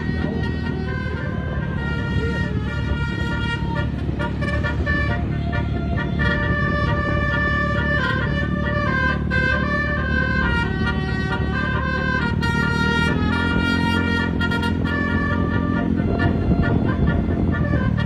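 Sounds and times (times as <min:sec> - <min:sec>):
low engine rumble: 0:00.0 - 0:18.0
musical bus horn playing: 0:00.0 - 0:18.0.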